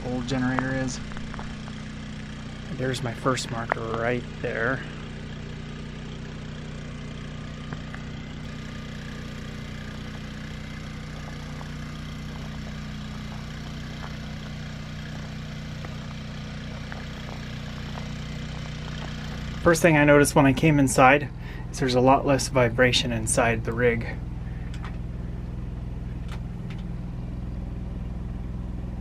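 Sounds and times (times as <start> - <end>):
generator humming: 0.0 - 29.0.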